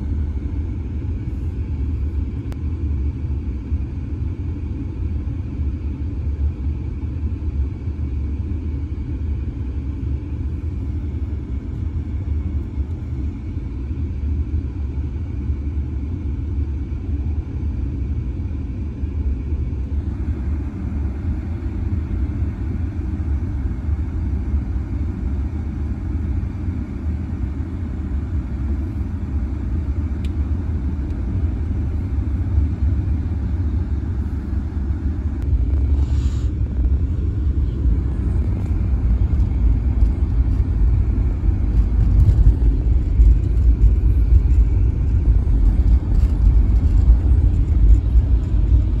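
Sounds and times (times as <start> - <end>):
muffled freight train rumble: 0.0 - 49.0.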